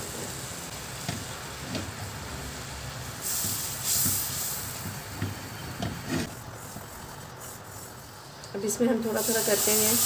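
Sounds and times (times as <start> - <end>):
roux sizzling in a frying pan: 0.0 - 8.4.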